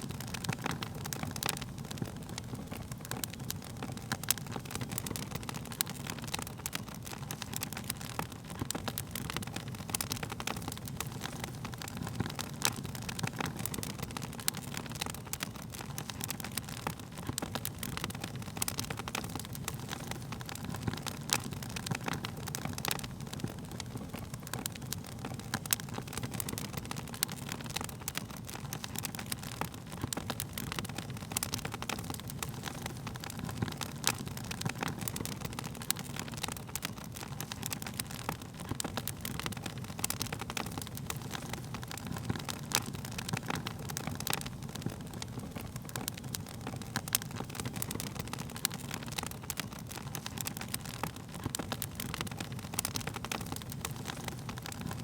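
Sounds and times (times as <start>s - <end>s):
low rumble of burning: 0.0s - 55.0s
wood fire crackling and popping: 0.0s - 55.0s.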